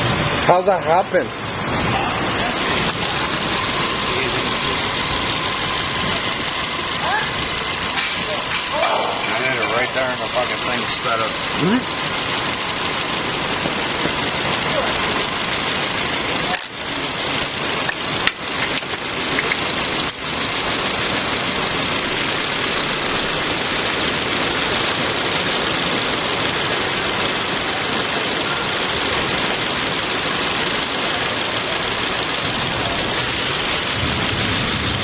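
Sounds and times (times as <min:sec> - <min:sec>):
car engine idling with misfire: 0:00.0 - 0:35.0.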